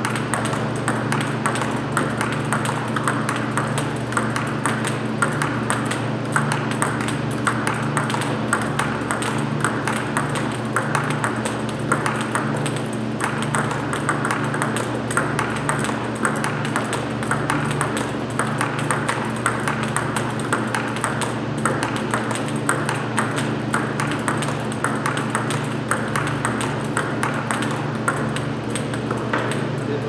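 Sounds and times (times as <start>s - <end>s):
table tennis balls clicking: 0.0s - 29.8s
steady low hum: 0.0s - 30.0s.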